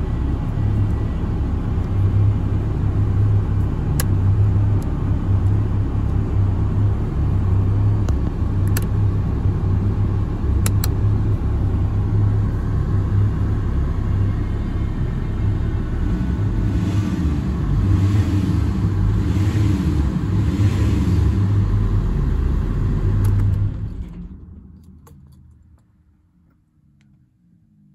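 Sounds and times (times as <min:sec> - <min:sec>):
diesel engine running: 0:00.0 - 0:24.8.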